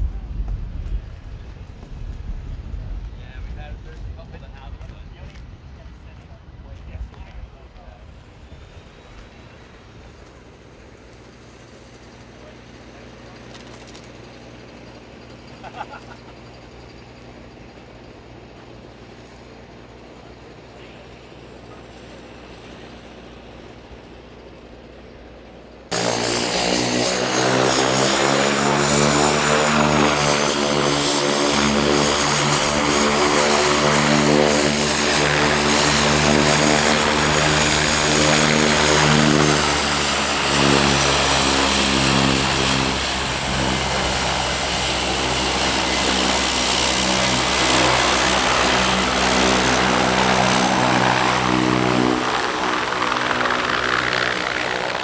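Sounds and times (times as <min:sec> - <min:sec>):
propeller airplane engine: 0:06.7 - 0:55.0.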